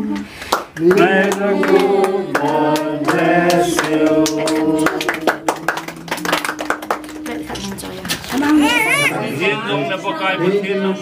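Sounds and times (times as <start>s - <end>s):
group singing birthday song: 0.0s - 11.0s
hand clapping: 0.1s - 9.0s.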